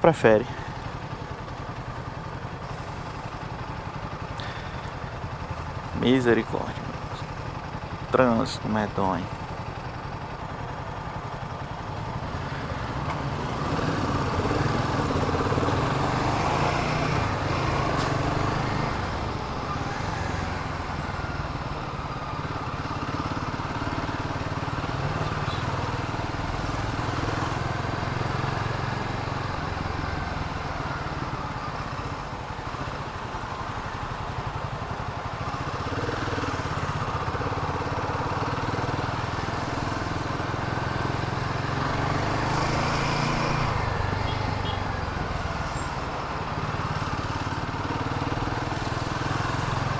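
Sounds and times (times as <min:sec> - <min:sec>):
motorcycle engine running: 0:00.0 - 0:49.9
road noise: 0:00.0 - 0:49.9.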